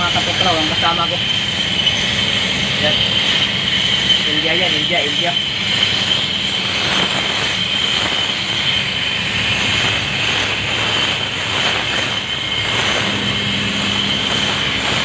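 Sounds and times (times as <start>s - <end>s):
pressure washer spraying: 0.0s - 15.0s.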